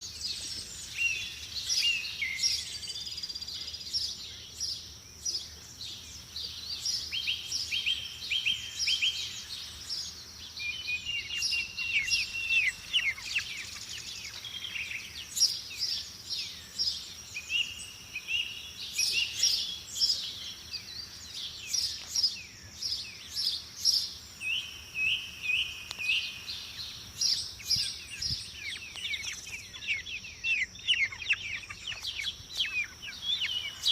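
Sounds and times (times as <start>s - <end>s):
birds singing and chirping: 0.0s - 33.9s.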